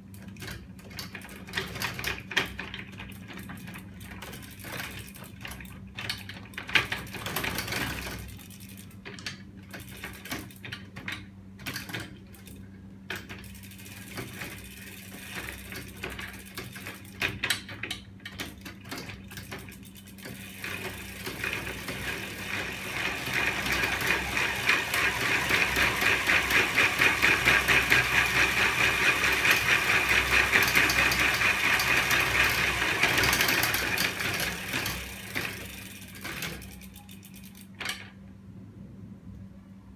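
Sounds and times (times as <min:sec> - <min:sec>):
mechanism fast clatter: 0:00.0 - 0:38.3.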